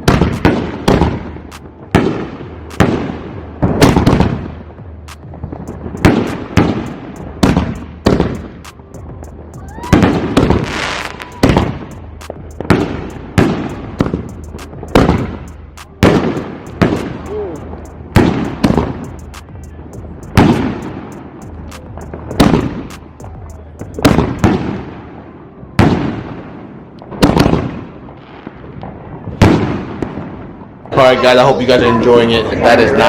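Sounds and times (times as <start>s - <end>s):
fireworks booming: 0.0s - 25.2s, 25.8s - 30.9s
fireworks crackling: 0.0s - 31.3s.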